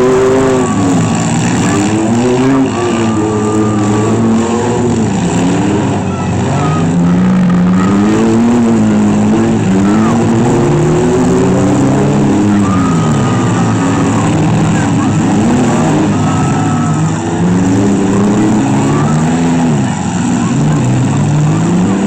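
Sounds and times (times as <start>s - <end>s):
vehicle engines revving: 0.0s - 22.0s.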